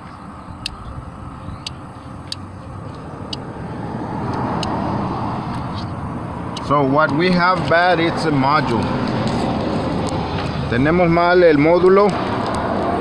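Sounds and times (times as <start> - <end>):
steady rumble: 0.0 - 13.0.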